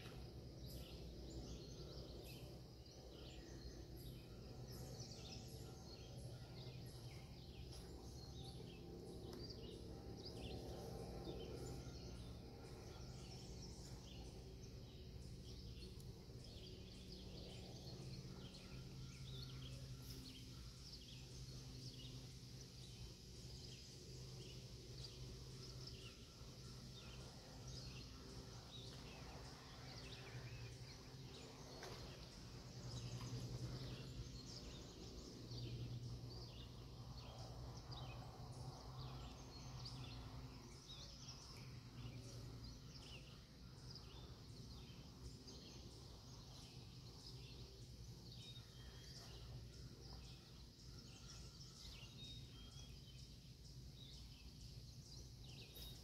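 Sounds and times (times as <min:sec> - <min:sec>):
low steady hum: 0:00.0 - 0:56.0
small birds chirping: 0:00.0 - 0:56.0.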